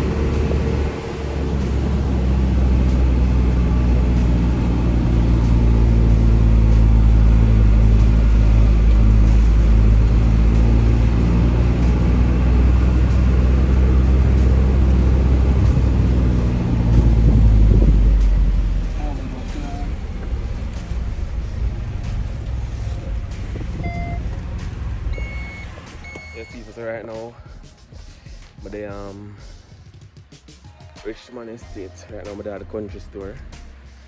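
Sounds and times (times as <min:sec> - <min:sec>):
vehicle engine rumbling: 0:00.0 - 0:27.3.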